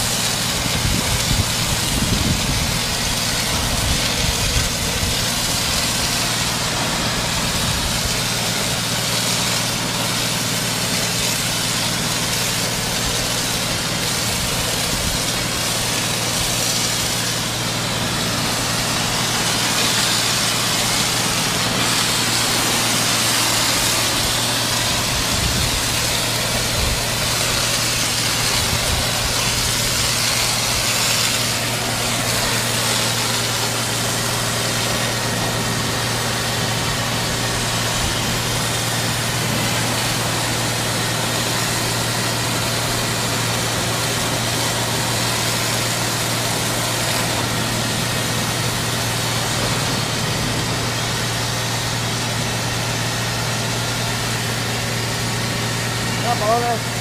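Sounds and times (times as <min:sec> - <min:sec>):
pressure washer hiss: 0:00.0 - 0:57.0
pressure washer motor humming: 0:00.0 - 0:57.0.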